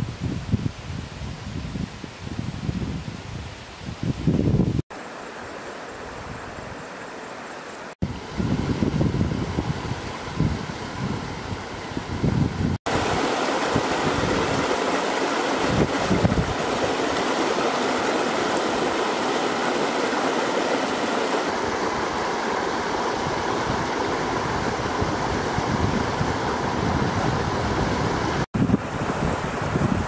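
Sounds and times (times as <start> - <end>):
stream rushing over rocks: 4.9 - 30.0.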